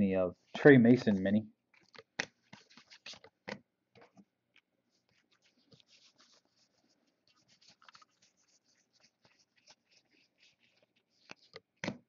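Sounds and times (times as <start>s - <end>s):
trading cards rustling: 0.5s - 3.4s, 5.0s - 12.0s.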